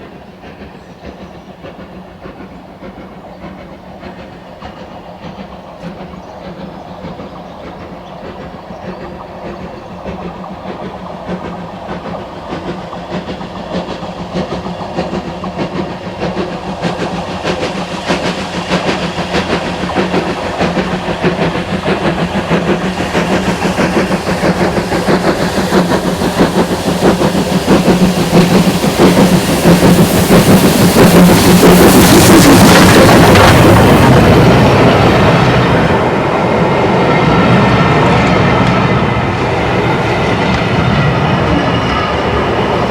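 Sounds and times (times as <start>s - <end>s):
steam train passing: 0.0s - 42.9s.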